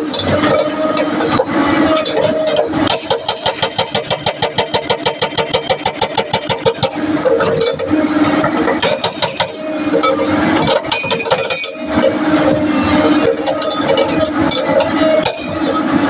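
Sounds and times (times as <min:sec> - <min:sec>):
engine and hydraulic tone: 0:00.0 - 0:16.0
hydraulic rock breaker hammering: 0:00.0 - 0:16.0.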